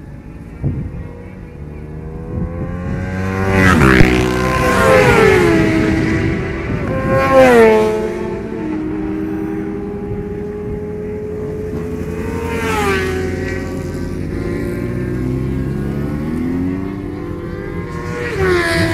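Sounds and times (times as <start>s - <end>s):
motorcycle engines at high revs: 0.0s - 18.9s.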